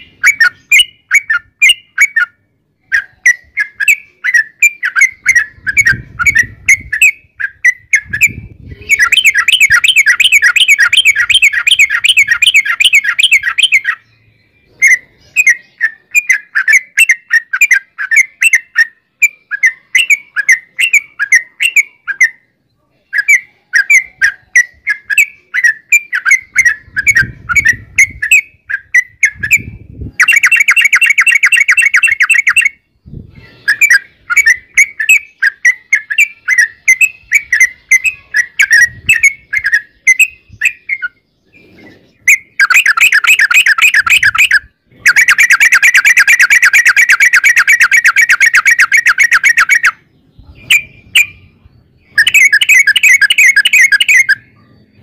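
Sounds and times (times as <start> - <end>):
bird fast rolling trill: 0.0 - 22.5, 23.1 - 32.9, 33.5 - 55.0
bird chirping: 0.0 - 55.0.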